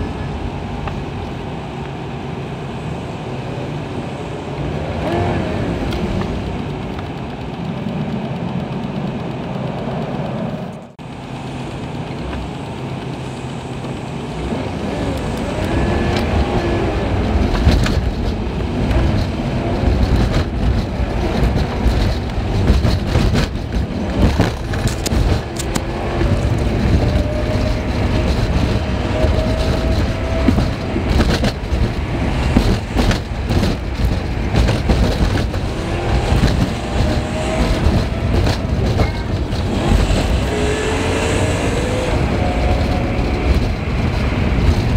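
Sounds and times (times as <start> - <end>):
sped-up car engine rumble: 0.0 - 44.9
knocks and rattles: 5.8 - 44.9.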